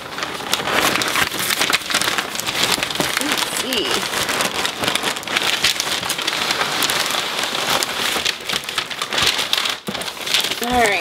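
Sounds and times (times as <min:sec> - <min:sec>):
tissue paper and plastic crinkling: 0:00.0 - 0:11.0.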